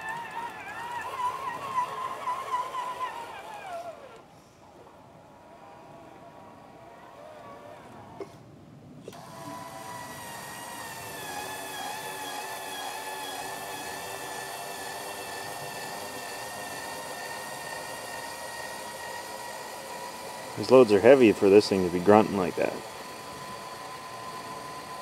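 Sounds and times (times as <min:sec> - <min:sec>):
electric motor whine: 0:00.0 - 0:08.4, 0:09.0 - 0:25.0.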